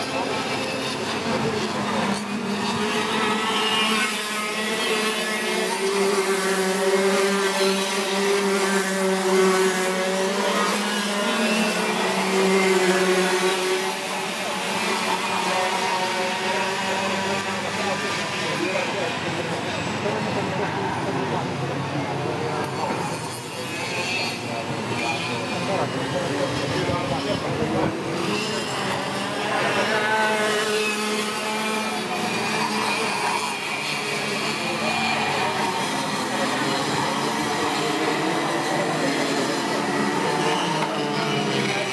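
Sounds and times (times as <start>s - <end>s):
kart engines buzzing at high revs: 0.0s - 41.9s.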